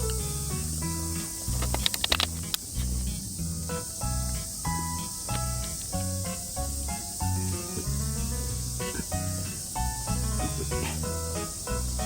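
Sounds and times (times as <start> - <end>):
background music with bass line: 0.0 - 12.0
steady high hiss: 0.0 - 12.0.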